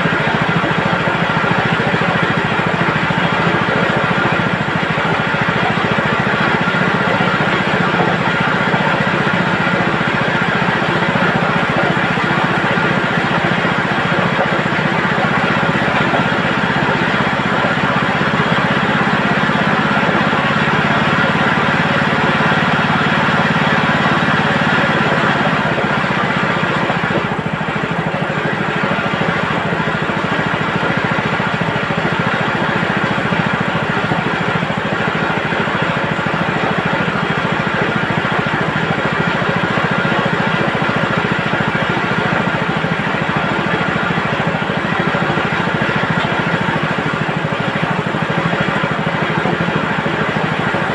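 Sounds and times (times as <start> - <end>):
chicken plucking machine running: 0.0 - 50.9.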